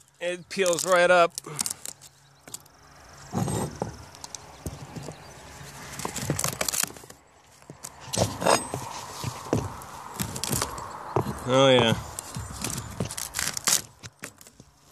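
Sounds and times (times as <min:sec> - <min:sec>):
plywood being pried and torn: 0:00.5 - 0:14.9.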